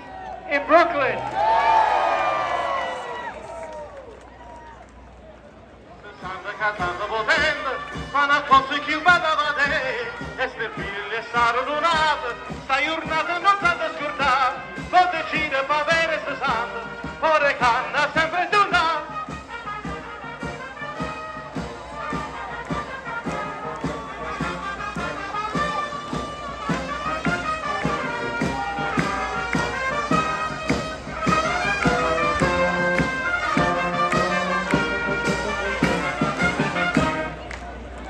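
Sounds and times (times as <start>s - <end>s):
brass band playing lively tune: 6.1s - 38.0s.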